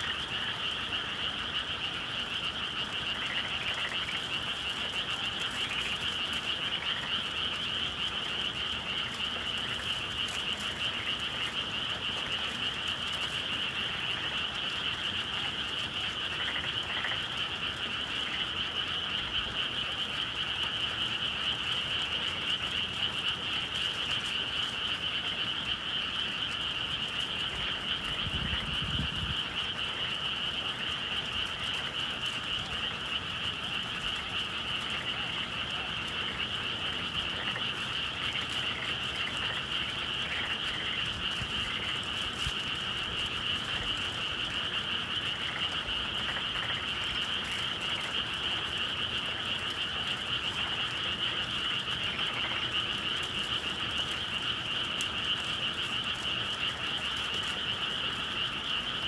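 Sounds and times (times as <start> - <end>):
chorus of frogs trilling: 0.0 - 59.0.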